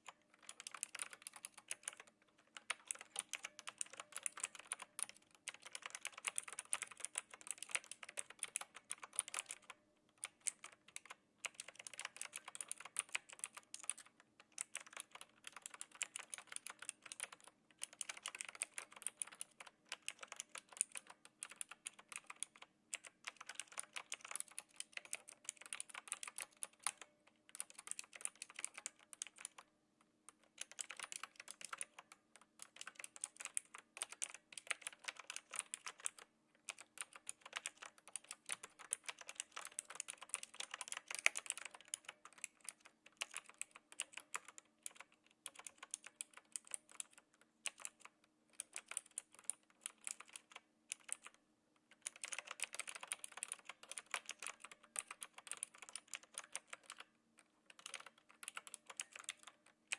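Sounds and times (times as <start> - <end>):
mechanical keyboard key clicks: 0.0 - 29.7, 30.3 - 59.9.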